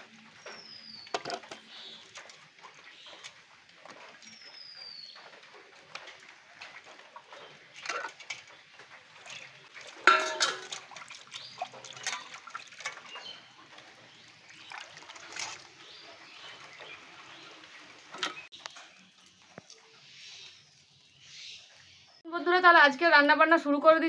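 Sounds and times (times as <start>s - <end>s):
water splashing in a bowl: 0.1s - 20.6s.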